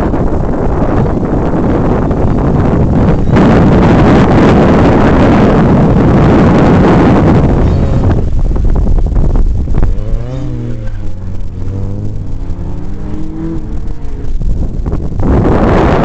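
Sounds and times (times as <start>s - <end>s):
wind noise on microphone: 0.0s - 16.0s
car engine pitch rising and falling: 0.1s - 16.0s.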